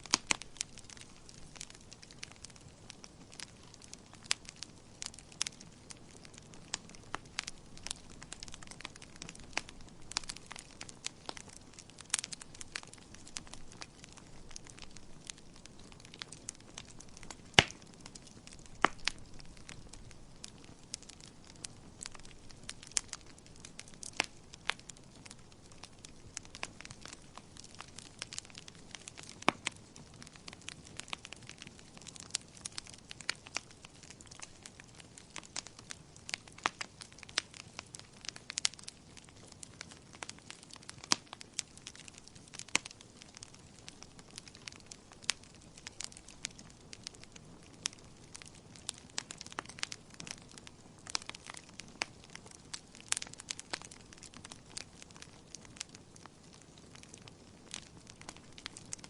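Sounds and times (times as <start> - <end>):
low steady hiss: 0.0 - 59.0
wood fire crackling and popping: 0.0 - 59.0.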